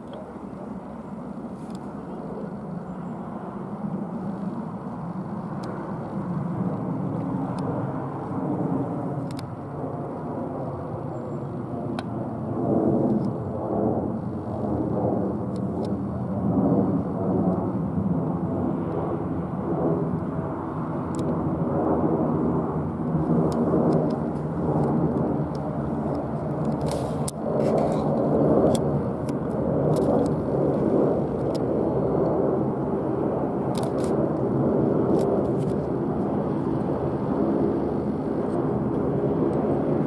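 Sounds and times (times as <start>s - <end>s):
jet airliner climbing overhead: 0.0s - 40.0s.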